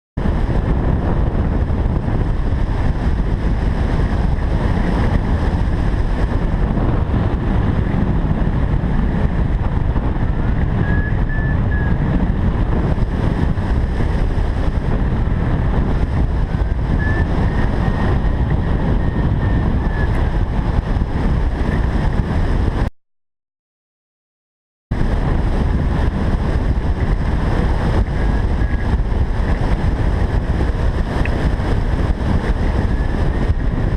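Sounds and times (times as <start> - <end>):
wind buffeting microphone: 0.2 - 22.9, 24.9 - 33.9.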